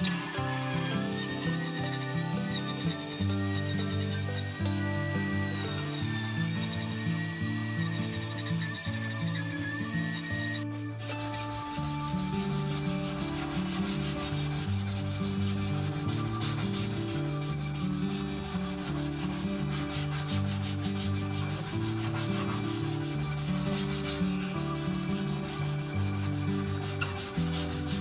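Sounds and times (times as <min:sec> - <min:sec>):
abrasive strip sanding wood: 0:00.0 - 0:28.0
background music: 0:00.0 - 0:28.0.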